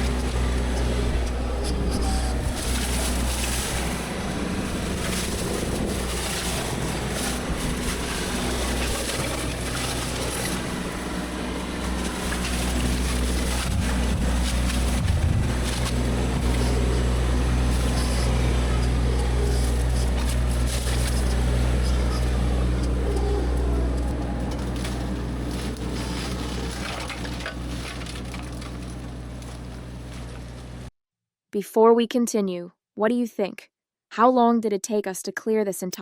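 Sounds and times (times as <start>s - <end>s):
heavy machinery engine humming: 0.0s - 30.9s.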